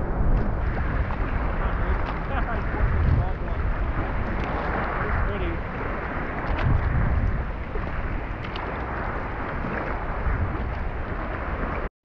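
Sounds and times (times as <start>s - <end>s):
water sloshing and splashing: 0.0s - 11.9s
wind buffeting microphone: 0.0s - 11.9s.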